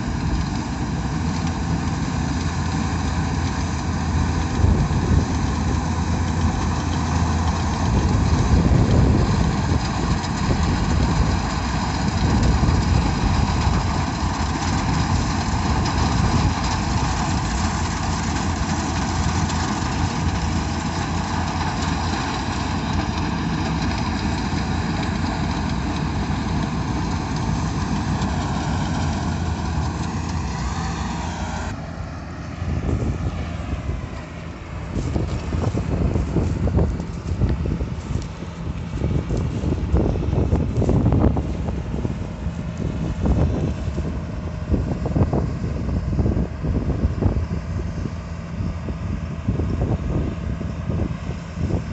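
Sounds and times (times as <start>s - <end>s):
combine harvester drone: 0.0s - 51.9s.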